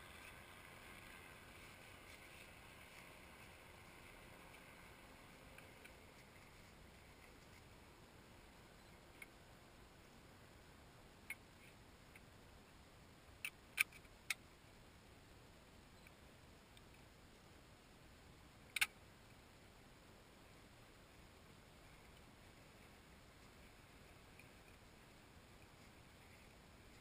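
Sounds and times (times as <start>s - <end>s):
faint background hiss: 0.0s - 27.0s.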